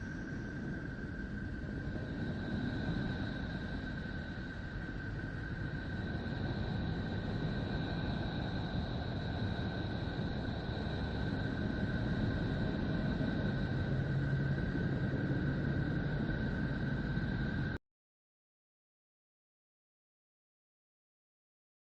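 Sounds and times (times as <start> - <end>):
low rumbling drone: 0.0 - 17.8.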